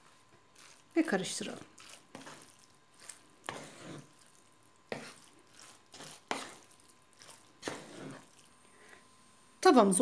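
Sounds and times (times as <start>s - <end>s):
wooden spoon mixing noodles: 0.0s - 9.0s.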